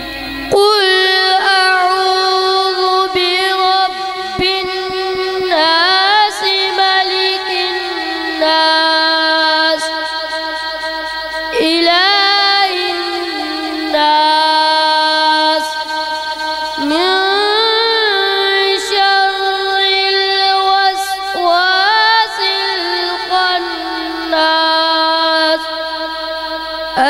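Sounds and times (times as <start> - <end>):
boy reciting melodically into microphone: 0.0 - 27.0.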